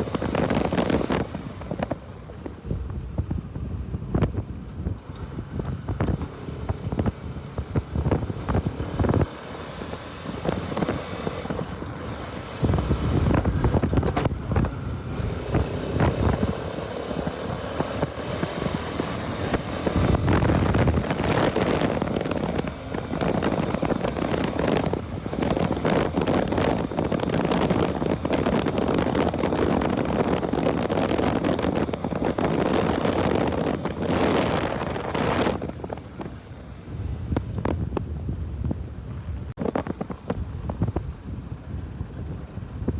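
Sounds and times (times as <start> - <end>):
motorcycle engine running: 0.0 - 42.9
wind buffeting microphone: 0.0 - 42.9.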